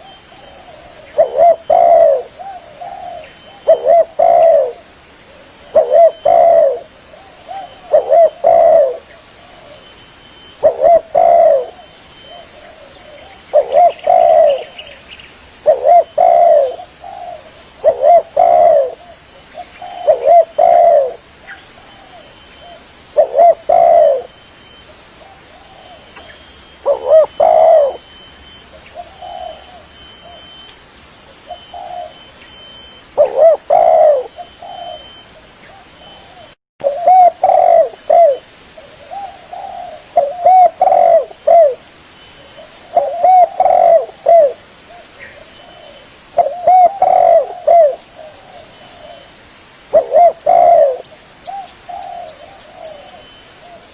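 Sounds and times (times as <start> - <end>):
dove cooing: 0.0 - 15.0, 15.6 - 30.7, 31.4 - 41.8, 42.4 - 49.3, 49.9 - 53.9.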